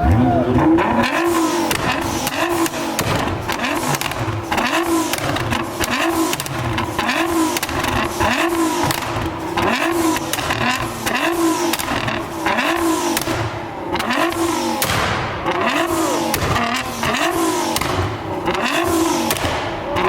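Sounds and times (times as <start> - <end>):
car engine revving: 0.0 - 20.0
exhaust pops and crackles: 0.0 - 20.0.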